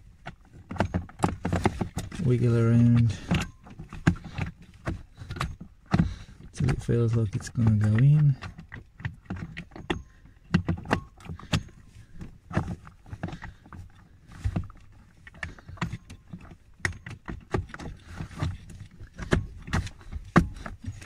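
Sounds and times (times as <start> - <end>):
plastic clicks and knocks: 0.2 - 21.0.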